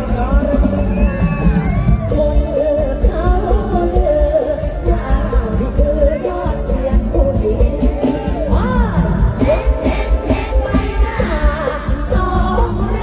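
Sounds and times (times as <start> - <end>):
amplified band with heavy bass beat: 0.0 - 13.0
woman singing into a microphone: 2.1 - 13.0.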